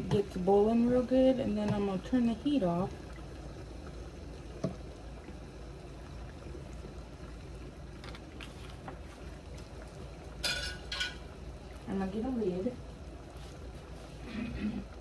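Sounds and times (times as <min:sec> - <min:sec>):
pot of water bubbling: 0:00.0 - 0:15.0.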